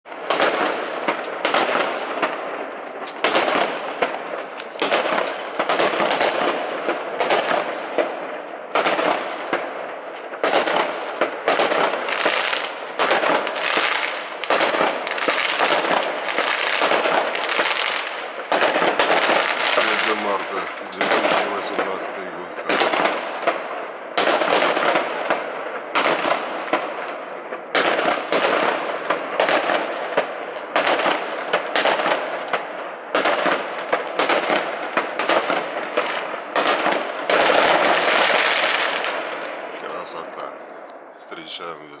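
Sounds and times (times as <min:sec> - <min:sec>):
fireworks banging and crackling: 0:00.1 - 0:42.0.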